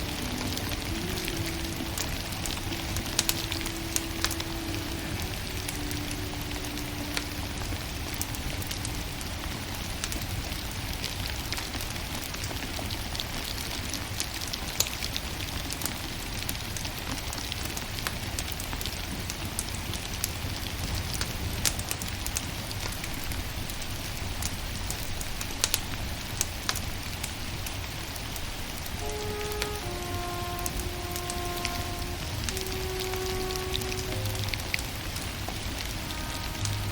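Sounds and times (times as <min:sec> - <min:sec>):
firewood crackling: 0:00.0 - 0:36.9
steady hiss and low rumble: 0:00.0 - 0:36.9.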